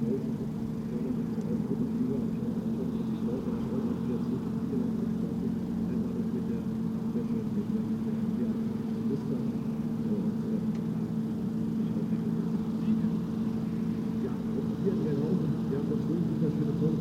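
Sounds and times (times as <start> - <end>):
radial aircraft engine droning: 0.0 - 17.0.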